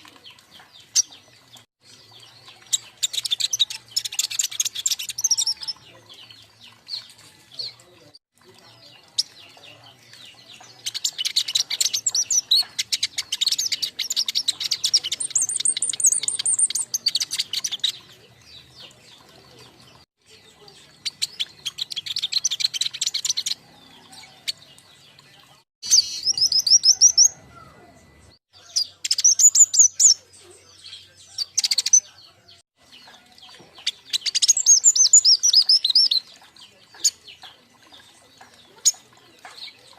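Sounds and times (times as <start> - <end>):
young songbirds chirping and trilling: 0.0 - 39.9.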